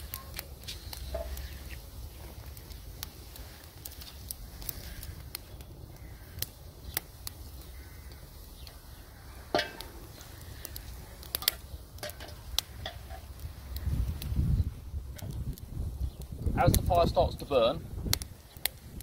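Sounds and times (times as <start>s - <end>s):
twigs crackling in fire: 0.0s - 19.0s
twigs placed on fire: 0.0s - 19.0s.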